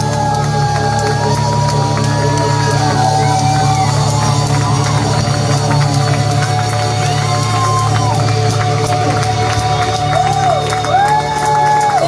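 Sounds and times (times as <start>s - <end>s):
crowd voices: 0.0s - 12.0s.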